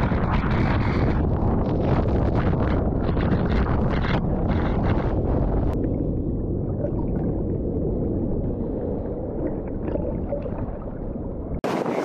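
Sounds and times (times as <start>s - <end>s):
muffled water churning: 0.0s - 12.0s.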